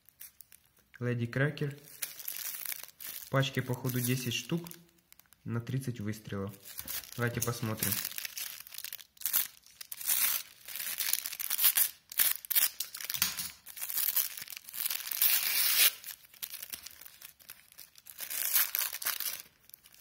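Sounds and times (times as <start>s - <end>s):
wrapper crinkling and tearing: 0.0s - 0.9s, 1.6s - 5.5s, 6.5s - 20.0s.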